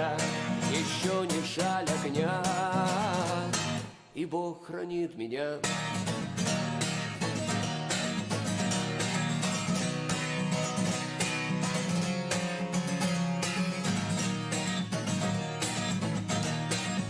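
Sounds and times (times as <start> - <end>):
strummed acoustic guitar: 0.0 - 4.2, 5.6 - 17.0.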